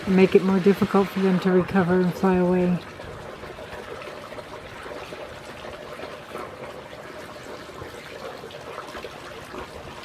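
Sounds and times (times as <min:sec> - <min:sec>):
pool water trickling and lapping: 0:00.0 - 0:10.0.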